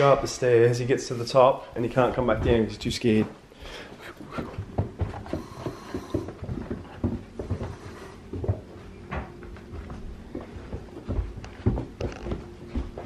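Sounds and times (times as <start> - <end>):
puppy paws pattering on stairs: 1.8 - 13.0.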